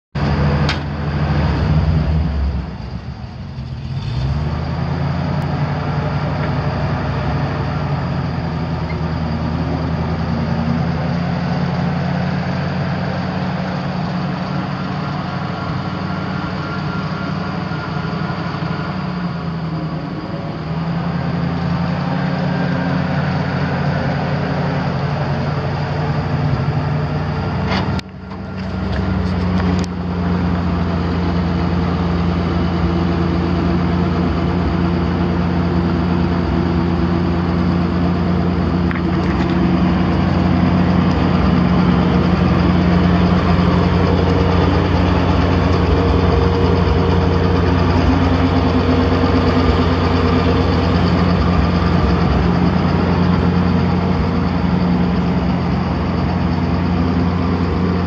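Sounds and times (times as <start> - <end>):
truck engine running: 0.1 - 58.0.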